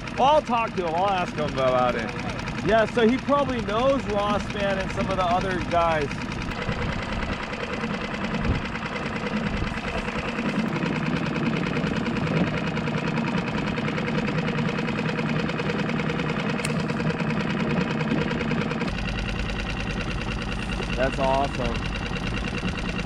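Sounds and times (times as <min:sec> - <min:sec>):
outboard motor chugging: 0:00.0 - 0:23.0.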